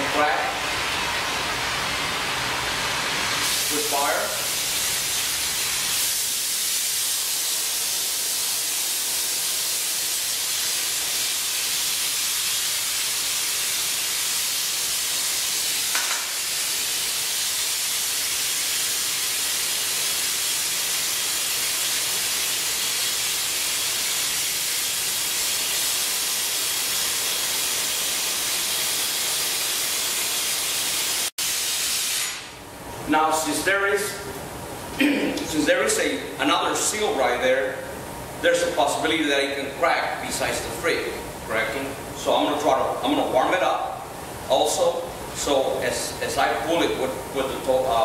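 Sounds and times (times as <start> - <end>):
burner flame hissing: 0.0 - 48.0.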